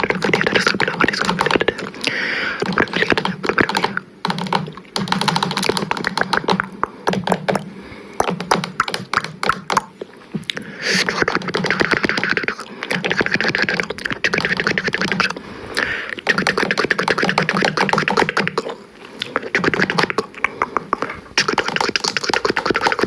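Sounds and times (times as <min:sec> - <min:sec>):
rapid clicking and tapping: 0:00.0 - 0:23.0.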